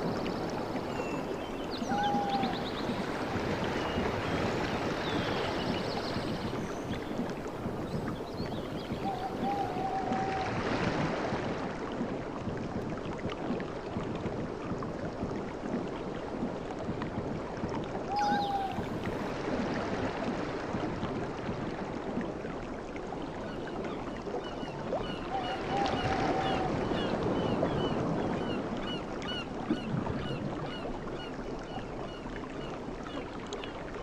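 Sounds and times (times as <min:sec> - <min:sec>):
surf washing on a beach: 0:00.0 - 0:15.3, 0:16.1 - 0:32.1
wind on the microphone: 0:00.0 - 0:34.0.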